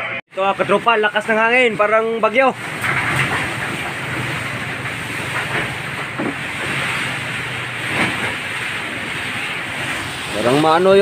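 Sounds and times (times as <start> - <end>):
rain on a tin roof: 0.3 - 11.0
roof rattling: 0.7 - 11.0.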